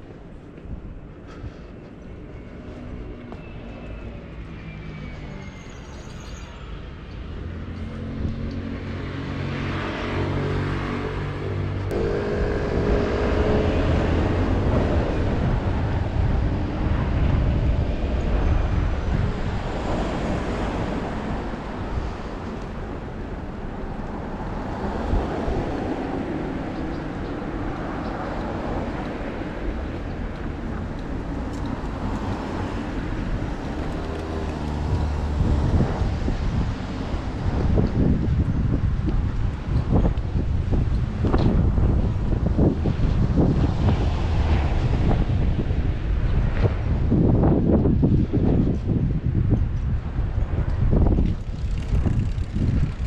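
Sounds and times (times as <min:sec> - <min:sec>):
cars passing on road: 0:00.0 - 0:53.0
wind noise on microphone: 0:00.0 - 0:53.0.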